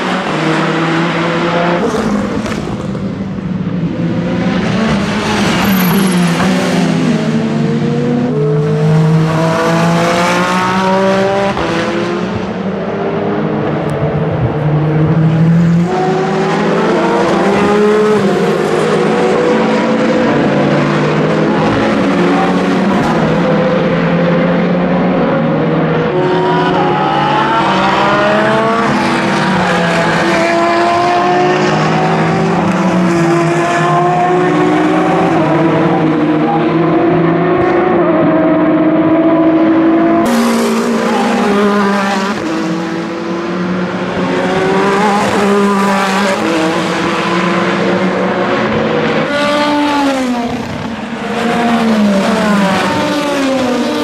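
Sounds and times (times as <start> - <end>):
race car engine revving through gears: 0.0 - 54.0.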